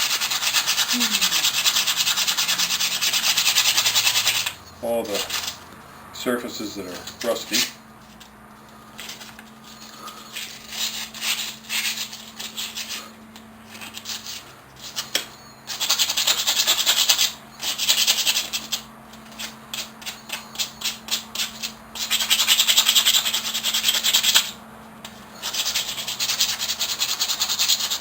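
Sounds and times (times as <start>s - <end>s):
sandpaper scrubbing on metal: 0.0s - 5.6s, 6.2s - 8.2s, 9.0s - 24.6s, 25.2s - 28.0s.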